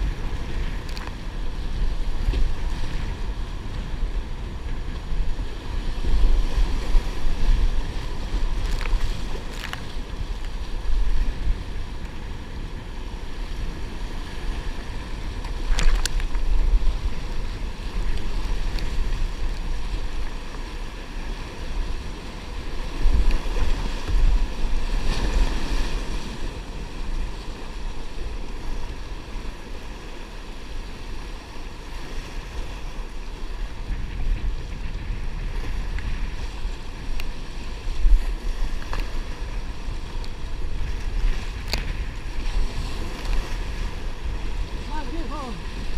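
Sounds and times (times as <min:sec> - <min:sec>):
water sloshing around kayak: 0:00.0 - 0:45.9
wind buffeting microphone: 0:00.0 - 0:45.9.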